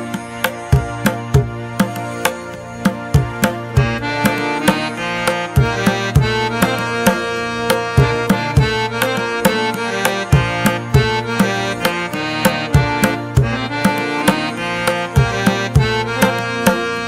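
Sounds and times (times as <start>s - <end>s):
hand drum rhythm: 0.0s - 17.0s
sustained melodic tones: 0.0s - 17.0s.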